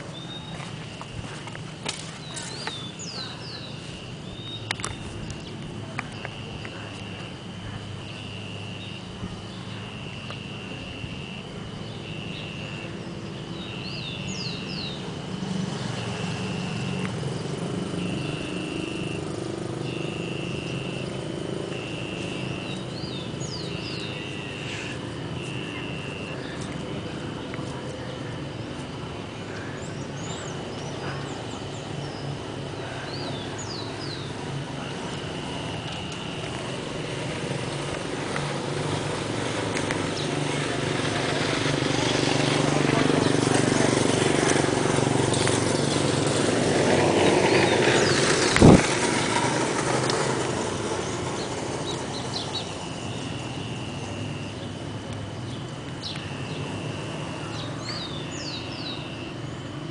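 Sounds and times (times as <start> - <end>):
low rumble of street traffic: 0.0 - 59.9.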